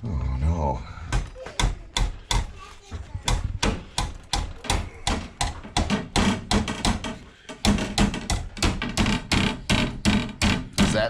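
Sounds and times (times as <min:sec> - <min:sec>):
rapid sharp knocking: 0:01.1 - 0:02.6, 0:03.2 - 0:11.0.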